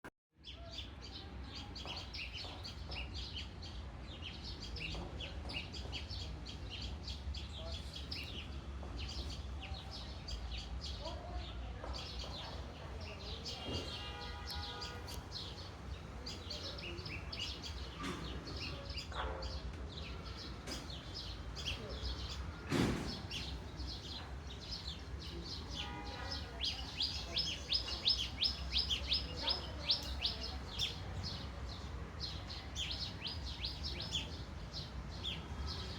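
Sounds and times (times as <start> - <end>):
birds chirping: 0.4 - 35.9.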